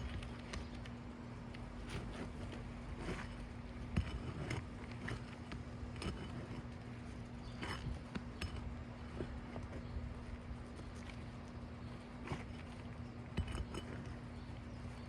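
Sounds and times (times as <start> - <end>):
steady low hum: 0.0 - 15.0
tool clicking and scraping shingles: 0.0 - 15.0.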